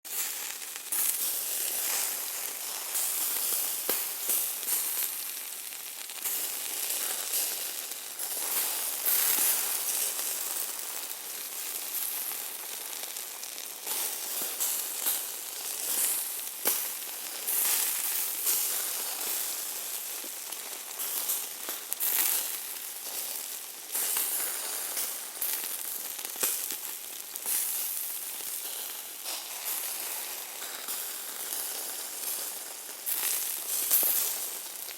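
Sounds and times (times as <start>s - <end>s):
meat sizzling with popping fat: 0.1s - 34.9s.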